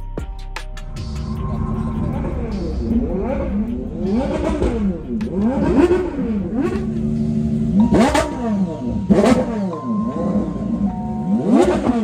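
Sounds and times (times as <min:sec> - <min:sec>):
sports car engine revving: 0:00.9 - 0:12.0.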